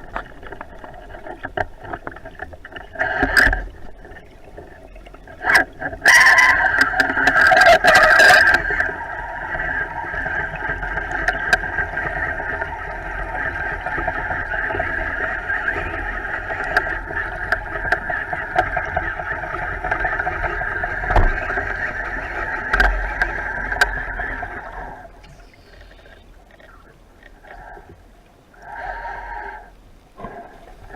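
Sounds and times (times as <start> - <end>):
underwater boat engine hum: 0.0 - 30.9.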